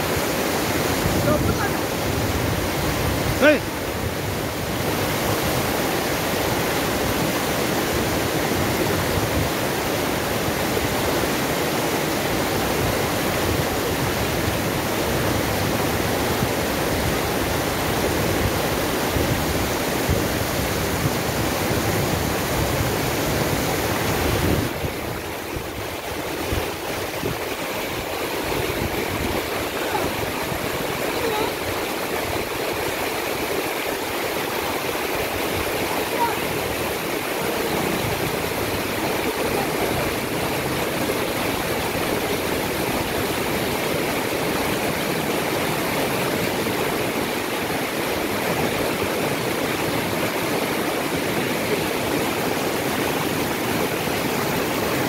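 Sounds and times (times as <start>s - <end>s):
river water rushing in rapids: 0.0s - 55.0s.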